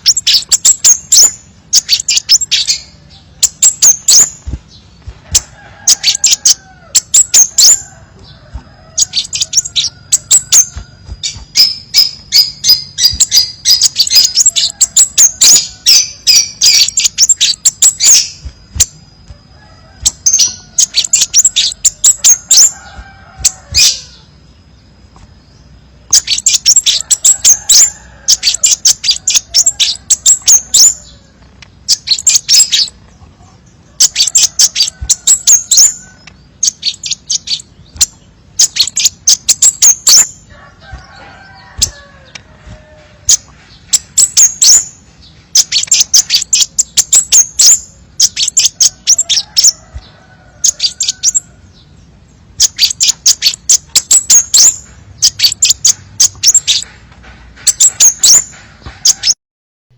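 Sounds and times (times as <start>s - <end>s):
bird chips and twitters: 0.0s - 59.4s.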